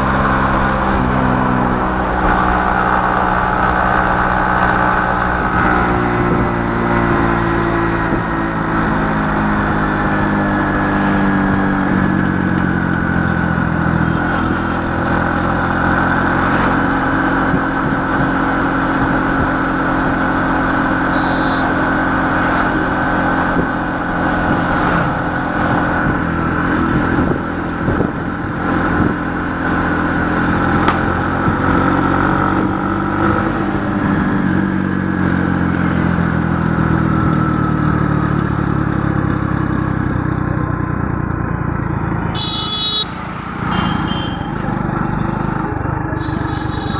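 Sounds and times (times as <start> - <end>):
vehicle engine running: 0.0 - 7.0, 7.7 - 46.9
road or wind noise: 0.0 - 46.9.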